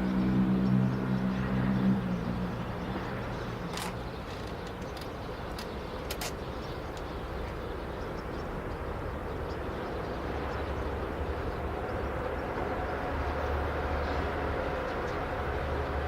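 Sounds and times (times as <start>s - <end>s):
diesel freight train rumbling: 0.0s - 16.0s.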